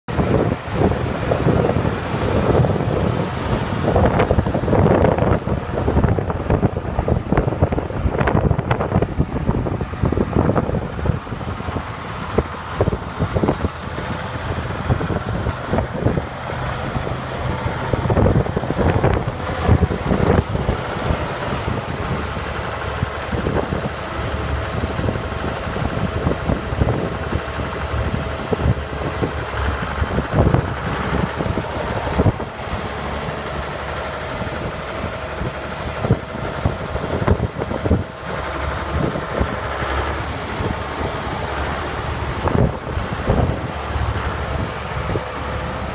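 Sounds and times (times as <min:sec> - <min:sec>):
tractor diesel engine idling: 0:00.1 - 0:45.9
wind buffeting microphone: 0:00.1 - 0:45.9.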